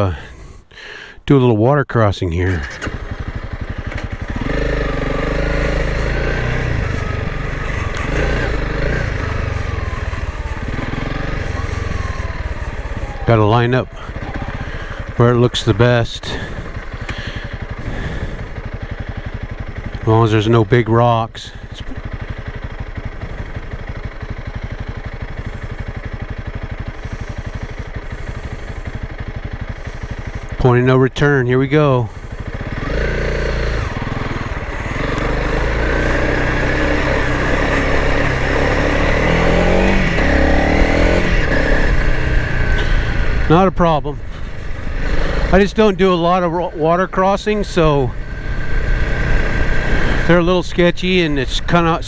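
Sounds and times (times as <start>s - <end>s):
motorcycle engine idling and revving: 0.0s - 1.0s, 2.2s - 52.0s.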